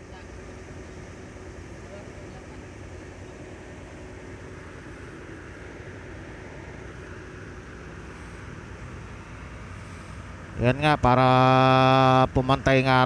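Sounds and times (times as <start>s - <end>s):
faint constant tones: 0.0s - 13.0s
low engine hum: 0.0s - 13.0s.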